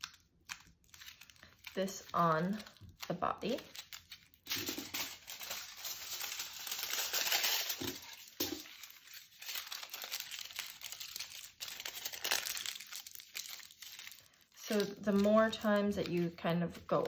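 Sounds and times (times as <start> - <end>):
aluminium foil crinkling: 0.0 - 17.0.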